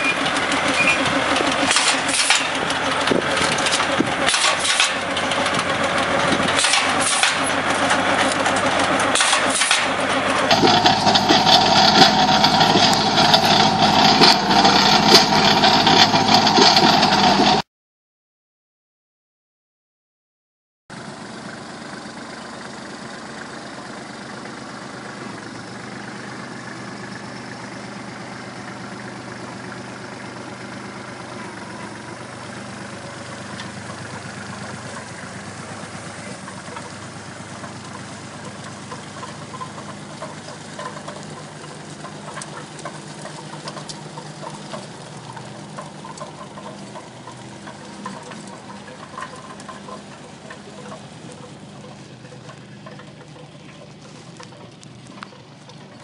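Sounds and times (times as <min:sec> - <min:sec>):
machinery clicking and rattling: 0:00.0 - 0:17.6, 0:28.3 - 0:56.0
tractor engine running: 0:00.0 - 0:17.7, 0:20.9 - 0:56.0.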